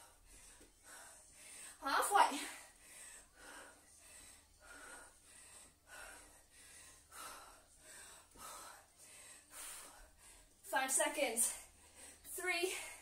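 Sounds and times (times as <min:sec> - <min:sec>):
woman breathing heavily: 0:00.0 - 0:10.7, 0:11.4 - 0:13.0.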